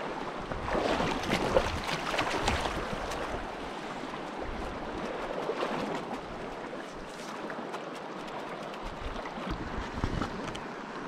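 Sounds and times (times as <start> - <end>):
stream water flowing: 0.0 - 11.0
water splashing: 0.4 - 10.5.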